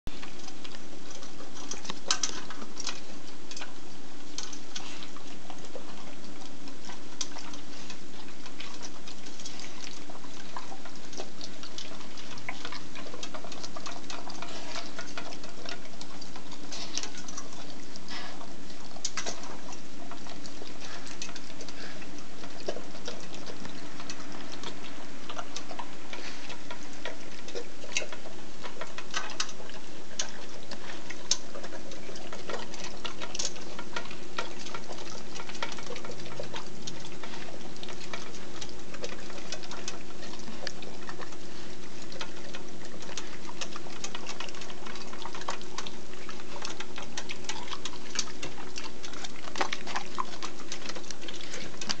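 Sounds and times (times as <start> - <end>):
steady low hum: 0.0 - 52.0
dogs chewing: 0.1 - 52.0.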